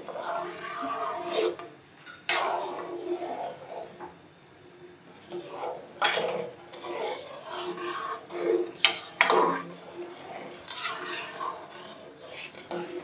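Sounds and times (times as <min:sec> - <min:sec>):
metal spoon scraping pan: 0:00.0 - 0:04.0, 0:05.3 - 0:13.0.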